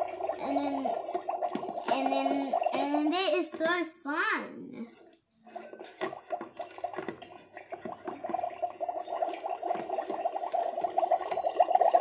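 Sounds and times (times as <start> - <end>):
water bubbling and gurgling: 0.0 - 3.3, 4.9 - 12.0.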